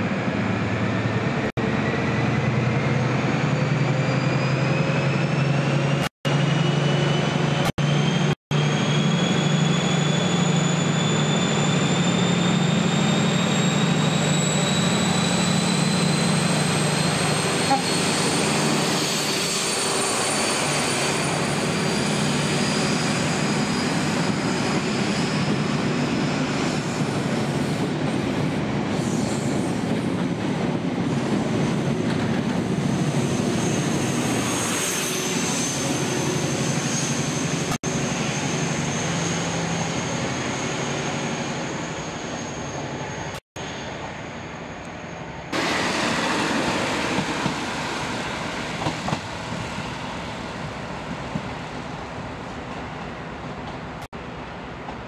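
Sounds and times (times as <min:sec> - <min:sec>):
diesel train passing: 0:00.0 - 0:55.0
rising train whine: 0:00.0 - 0:55.0.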